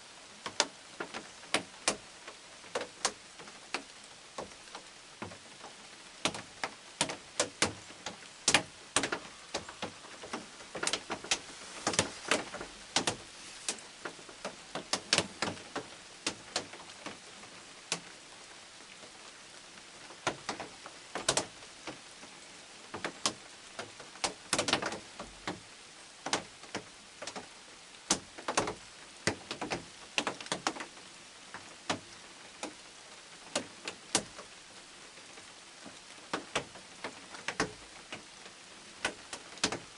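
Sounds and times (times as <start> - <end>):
soft steady rain hiss: 0.0 - 39.9
raindrops ticking on hard surface: 0.1 - 39.9.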